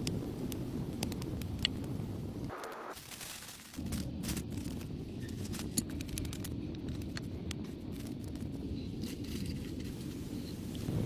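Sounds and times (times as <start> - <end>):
wind rumble on microphone: 0.0 - 2.5, 3.8 - 11.0
wood fire crackling: 0.0 - 11.0.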